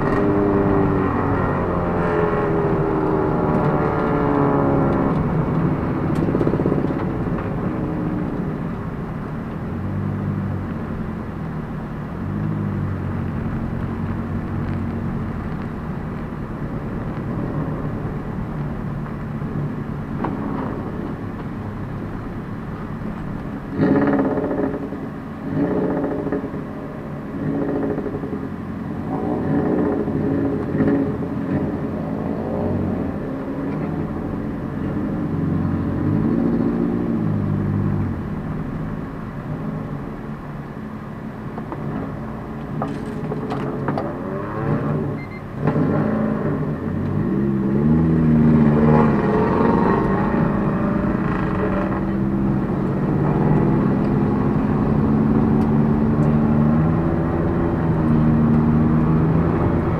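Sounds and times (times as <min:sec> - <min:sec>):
car engine heard from cabin: 0:00.0 - 0:59.9.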